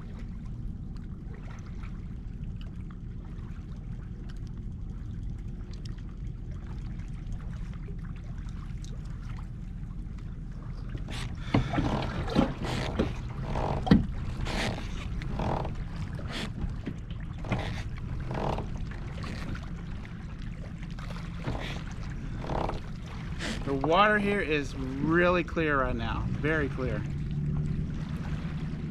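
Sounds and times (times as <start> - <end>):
low rumble of wind and water: 0.0 - 28.9
water splashing around kayak: 0.0 - 28.9.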